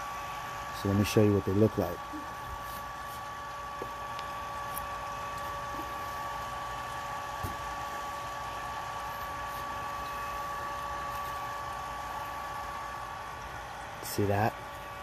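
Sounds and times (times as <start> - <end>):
electrical hum with whining tones: 0.0 - 15.0.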